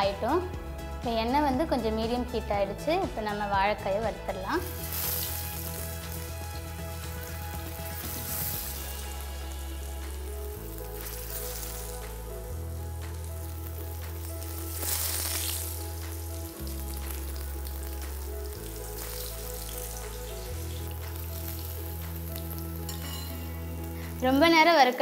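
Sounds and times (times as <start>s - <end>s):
background music: 0.0s - 25.0s
food sizzling in oil: 4.3s - 25.0s.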